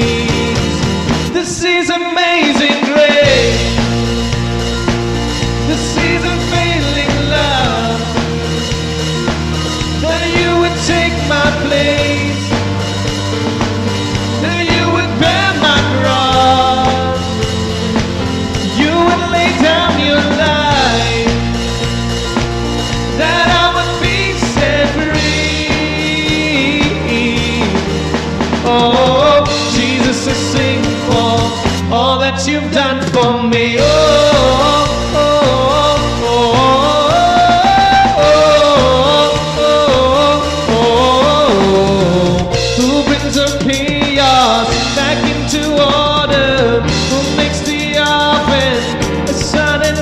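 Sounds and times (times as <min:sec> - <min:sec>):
band playing worship song: 0:00.0 - 0:50.0
person singing: 0:00.0 - 0:50.0.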